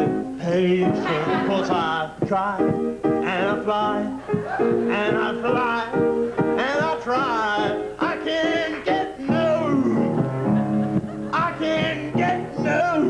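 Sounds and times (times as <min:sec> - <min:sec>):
man singing: 0:00.0 - 0:10.4, 0:11.2 - 0:13.0
piano chords: 0:00.0 - 0:13.0.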